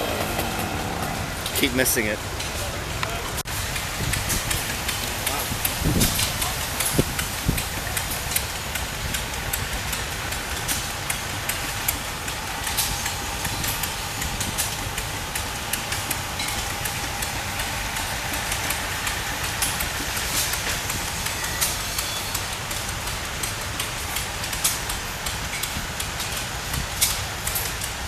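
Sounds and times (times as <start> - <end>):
engine running with knocks: 0.0 - 28.0.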